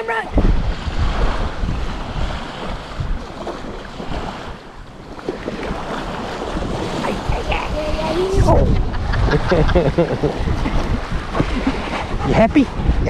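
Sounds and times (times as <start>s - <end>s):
gusty wind buffeting microphone: 0.0s - 13.0s
waves washing on shore: 0.0s - 13.0s.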